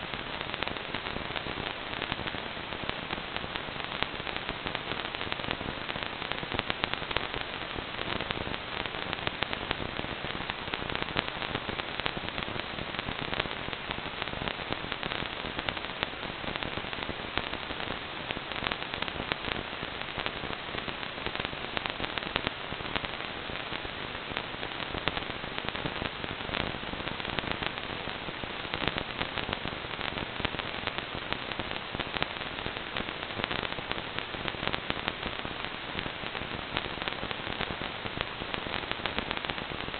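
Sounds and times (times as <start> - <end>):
crackling radio static: 0.0 - 39.9.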